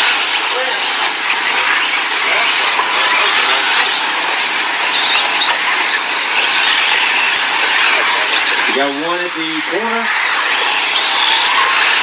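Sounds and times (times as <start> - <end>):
radio-controlled cars running: 0.0 - 12.0.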